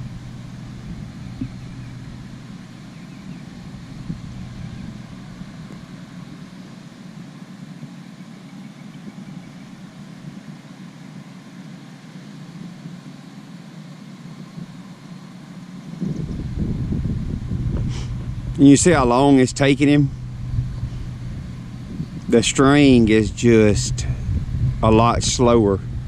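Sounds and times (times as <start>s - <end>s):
steady engine hum: 0.0s - 26.0s.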